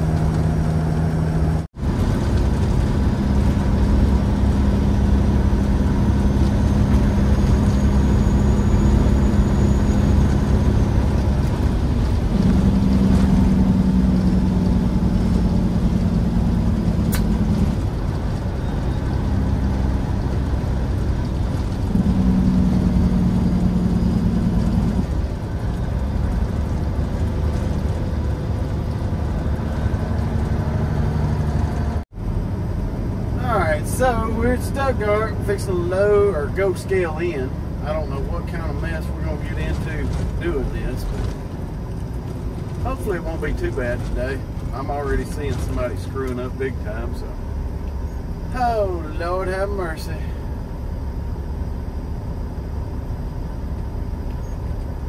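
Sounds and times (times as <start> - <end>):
truck engine and road drone: 0.0 - 55.0.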